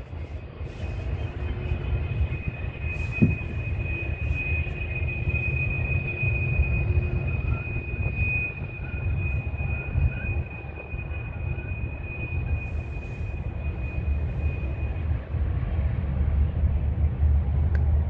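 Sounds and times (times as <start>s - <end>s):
train wheels squealing: 0.0s - 16.1s
low rumble: 0.0s - 18.0s.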